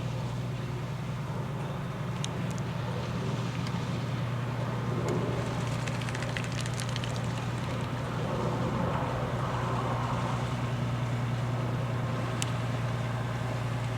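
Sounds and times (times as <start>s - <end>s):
boat engine running: 0.0s - 13.9s.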